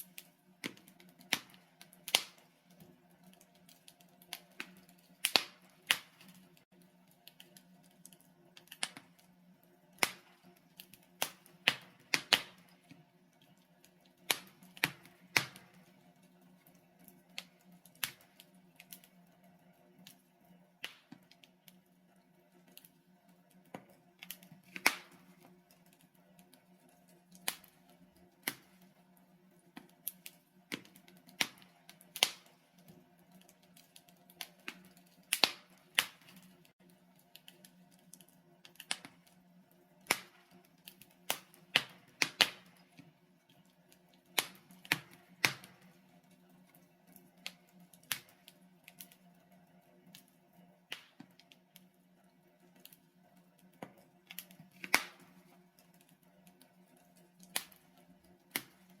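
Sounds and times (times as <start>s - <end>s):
sharp pops from burning logs: 0.0s - 19.2s, 20.0s - 21.8s, 23.6s - 28.9s, 29.7s - 39.4s, 40.0s - 46.0s, 47.1s - 49.2s, 50.1s - 51.9s, 53.6s - 56.6s, 57.4s - 59.0s
wood fire crackling: 0.0s - 59.0s.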